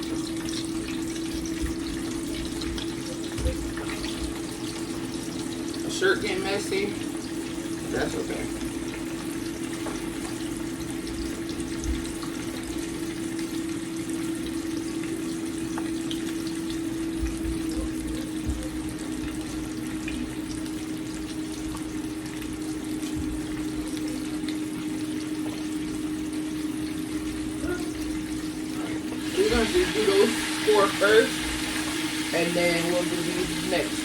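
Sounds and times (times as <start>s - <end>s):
chicken frying in grease: 0.0s - 34.0s.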